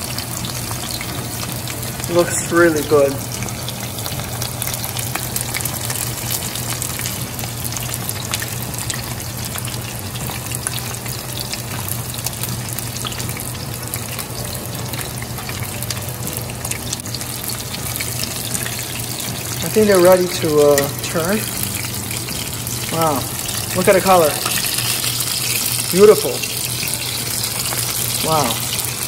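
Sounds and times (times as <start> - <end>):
chicken frying in oil: 0.0 - 29.0.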